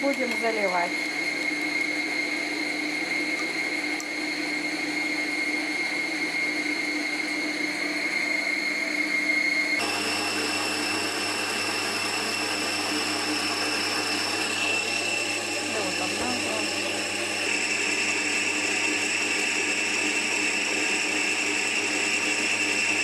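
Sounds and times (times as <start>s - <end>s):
stand mixer motor whining: 0.0s - 23.0s.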